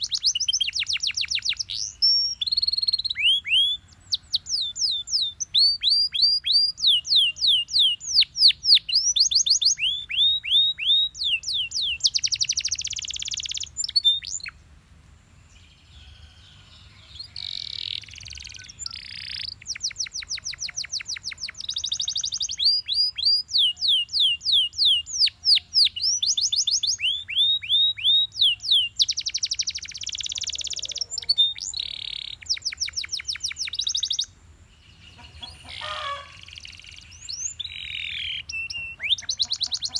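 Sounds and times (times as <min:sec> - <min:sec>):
canary singing trills: 0:00.0 - 0:14.6, 0:15.6 - 0:39.9.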